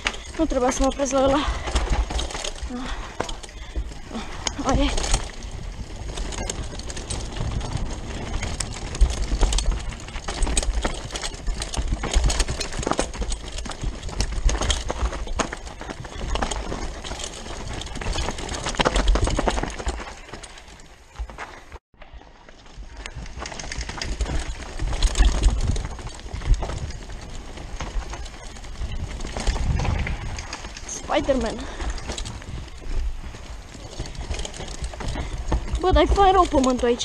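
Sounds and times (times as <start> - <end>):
bike chain and frame rattling: 0.0 - 21.8, 22.4 - 37.0
bike tyres rolling over dirt: 0.0 - 37.0.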